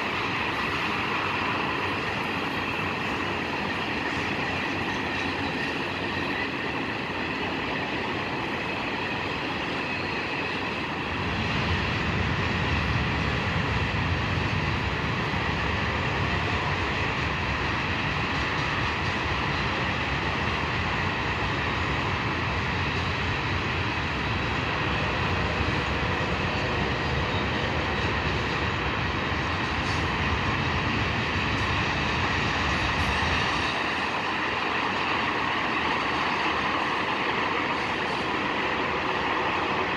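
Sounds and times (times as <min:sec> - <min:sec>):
train rumbling past on rails: 0:00.0 - 0:39.9.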